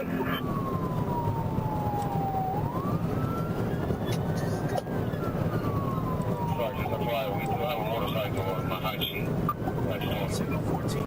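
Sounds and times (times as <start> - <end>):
police siren wailing: 0.0 - 11.0
road and engine rumble: 0.0 - 11.0.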